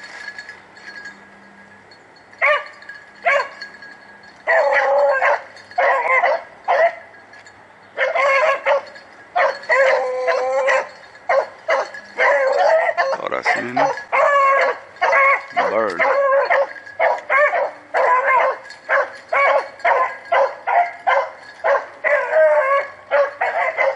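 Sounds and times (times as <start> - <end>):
hounds barking and bawling: 2.4 - 3.7, 4.4 - 7.2, 8.0 - 23.9.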